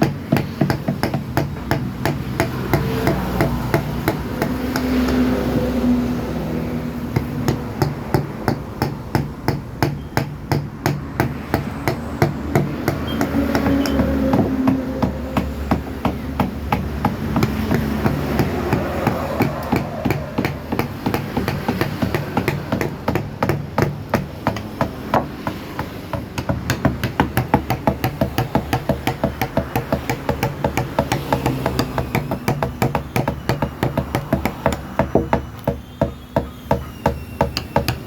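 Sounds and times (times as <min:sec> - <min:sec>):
mallet striking chisel into wood: 0:00.0 - 0:05.9, 0:06.5 - 0:38.0.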